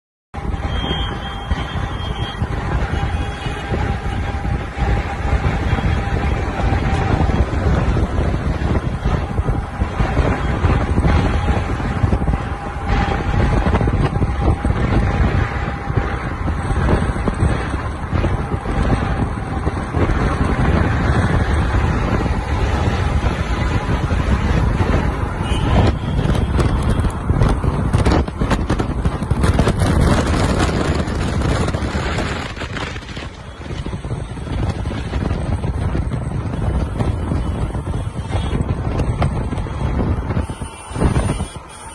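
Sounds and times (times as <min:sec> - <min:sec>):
vehicles: 0:00.4 - 0:41.9
wind buffeting microphone: 0:00.4 - 0:41.9.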